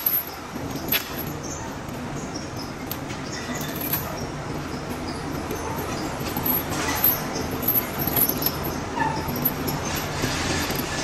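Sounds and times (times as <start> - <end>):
steel chains clinking and rattling: 0.0 - 1.6, 2.8 - 11.0
workshop background noise: 0.0 - 11.0.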